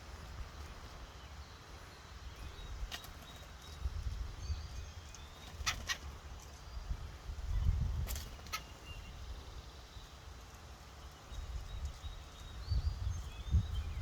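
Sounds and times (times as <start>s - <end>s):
low wind rumble: 0.0s - 14.0s.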